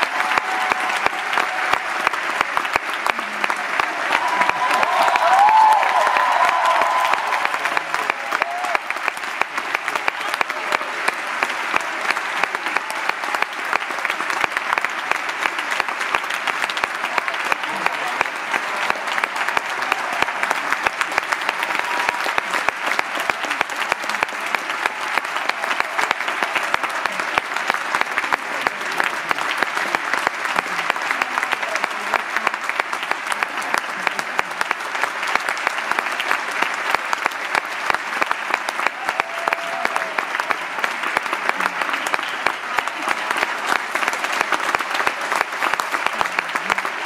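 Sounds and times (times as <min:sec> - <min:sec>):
audience applauding: 0:00.0 - 0:47.0.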